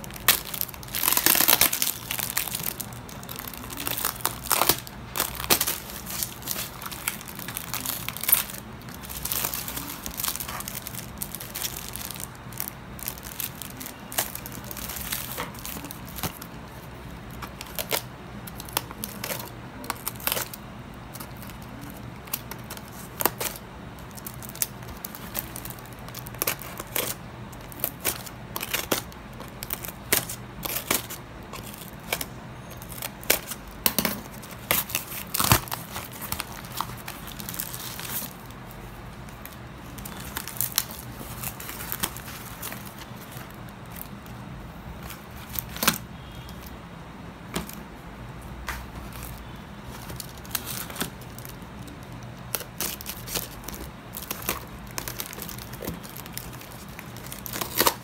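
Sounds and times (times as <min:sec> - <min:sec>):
packaging crinkling and rustling: 0:00.0 - 0:46.8, 0:47.4 - 0:47.9, 0:48.6 - 0:58.0.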